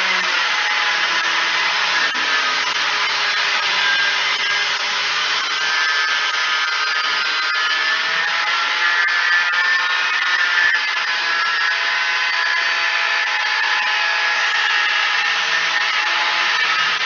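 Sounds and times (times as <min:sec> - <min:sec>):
cut-off saw grinding steel: 0:00.0 - 0:17.0.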